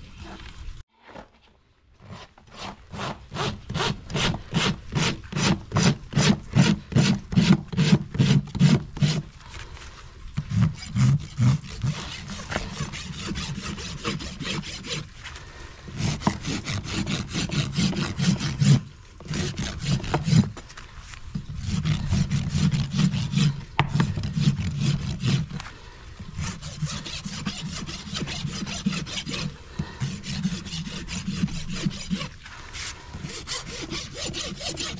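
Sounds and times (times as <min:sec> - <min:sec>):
hoof rasp filing: 0:02.0 - 0:09.4, 0:10.4 - 0:15.1, 0:15.8 - 0:20.6, 0:21.4 - 0:25.7, 0:26.3 - 0:34.9.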